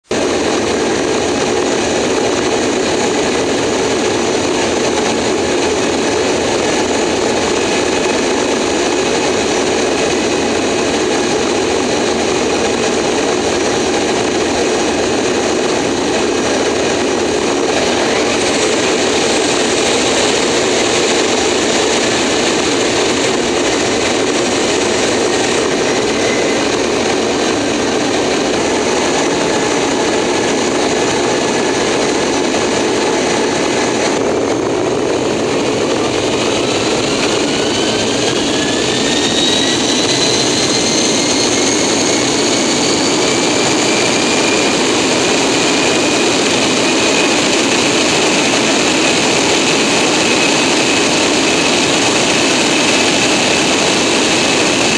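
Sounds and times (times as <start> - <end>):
jet engine whine rising: 0.0 - 54.9
jet engines roaring: 0.0 - 54.9.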